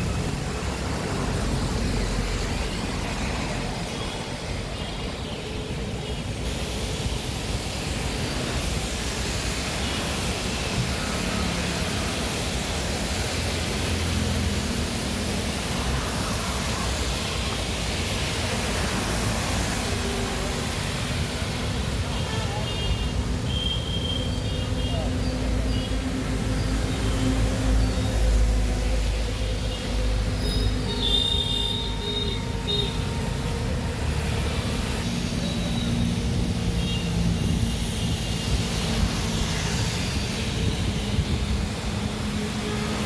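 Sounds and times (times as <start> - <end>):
running floodwater: 0.0 - 43.0
vehicles passing through water: 0.0 - 43.0.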